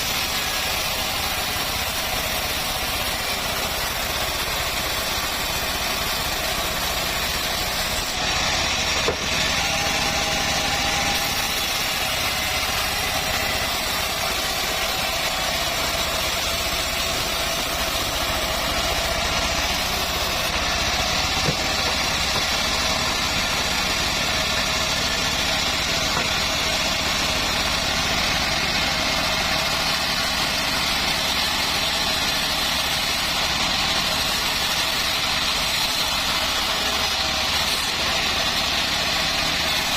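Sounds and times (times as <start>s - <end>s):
bandsaw mill running: 0.0s - 39.9s.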